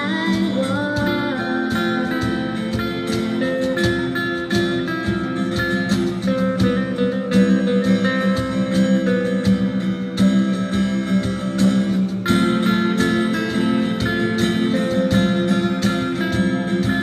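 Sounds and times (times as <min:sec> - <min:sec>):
band playing guitar-led instrumental: 0:00.0 - 0:17.0.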